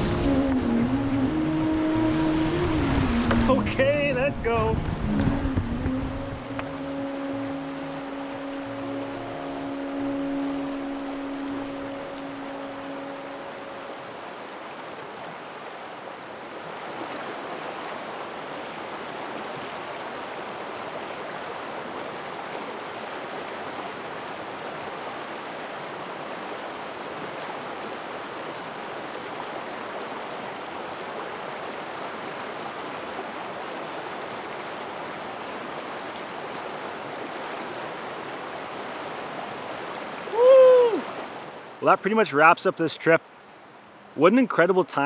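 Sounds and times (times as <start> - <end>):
river water rushing over rocks: 0.0 - 45.0.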